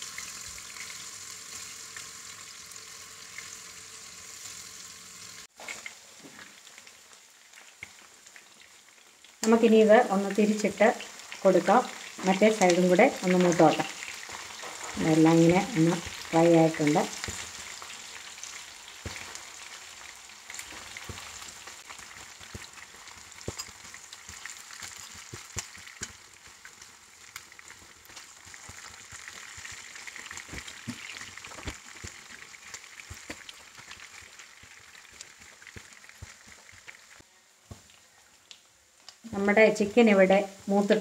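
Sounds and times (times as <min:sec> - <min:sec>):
chicken sizzling in oil: 0:00.0 - 0:41.0.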